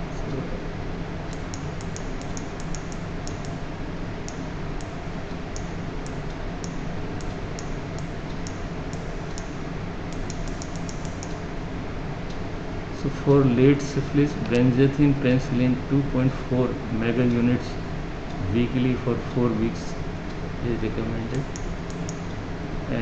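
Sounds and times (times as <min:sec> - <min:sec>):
room hum: 0:00.0 - 0:23.0.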